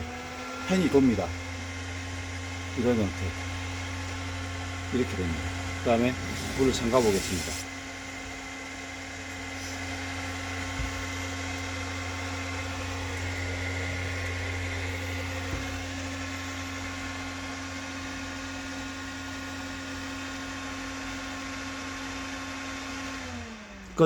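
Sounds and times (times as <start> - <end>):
cooling fan running: 0.0 - 24.0
pump motor humming: 0.0 - 24.0.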